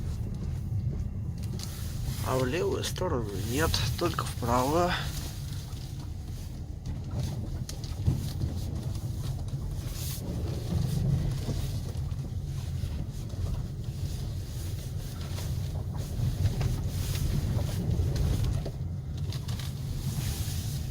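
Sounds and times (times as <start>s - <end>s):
car engine low rumble: 0.0s - 20.9s.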